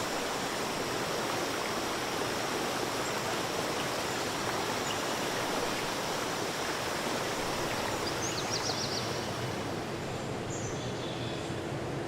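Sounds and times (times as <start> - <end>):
running water: 0.0 - 10.5.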